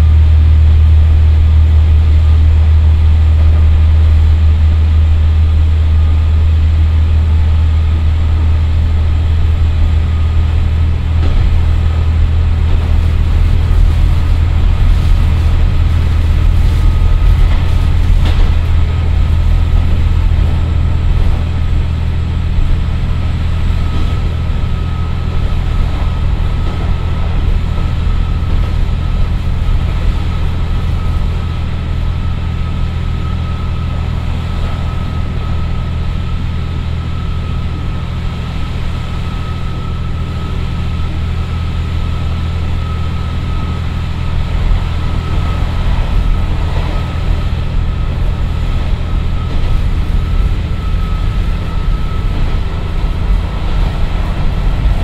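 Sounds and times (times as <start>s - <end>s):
diesel railcar engine drone: 0.0s - 55.0s
faint steady whine: 0.0s - 55.0s.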